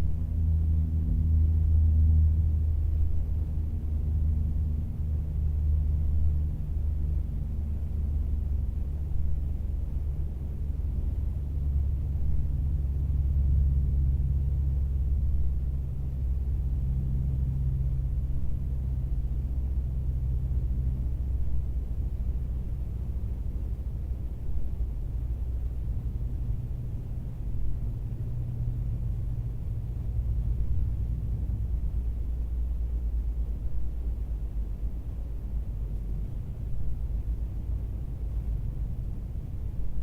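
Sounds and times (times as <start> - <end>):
distant propeller plane droning: 0.0 - 40.0.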